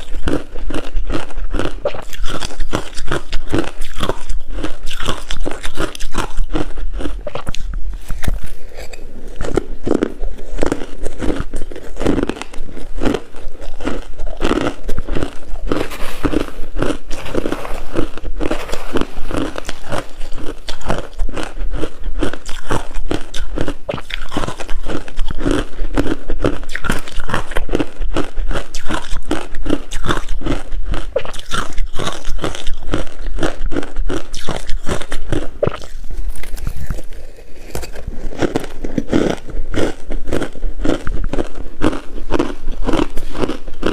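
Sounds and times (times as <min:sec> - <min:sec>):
person chewing crunchy ice: 0:00.0 - 0:43.9.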